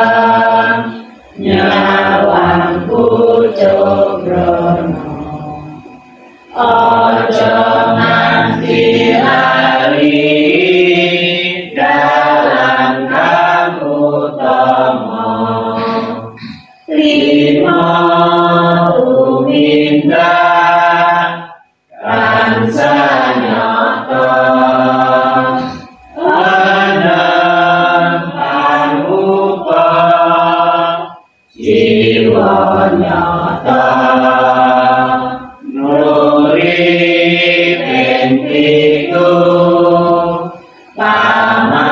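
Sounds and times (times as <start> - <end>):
congregation singing in unison: 0.0 - 41.9.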